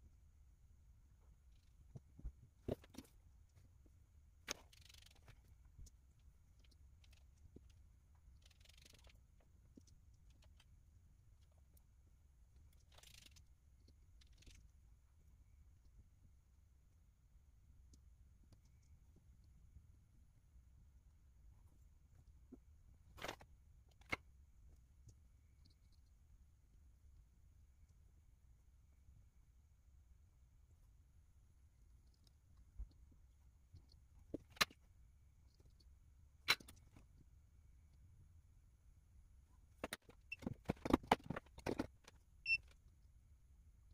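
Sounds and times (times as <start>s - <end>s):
faint low room hum: 0.0s - 43.9s.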